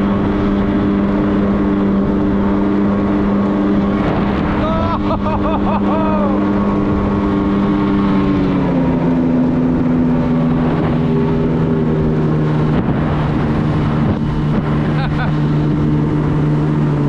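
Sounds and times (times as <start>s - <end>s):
jet ski engine running: 0.0s - 17.0s
water and wind rushing: 0.0s - 17.0s.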